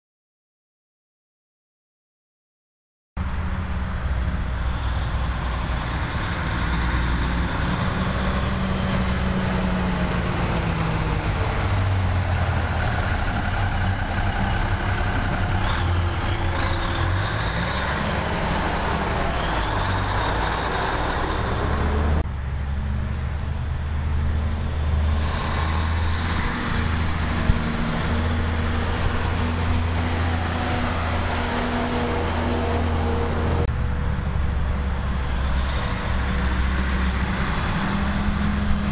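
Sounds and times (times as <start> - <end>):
truck diesel engine revving: 3.4 - 38.9.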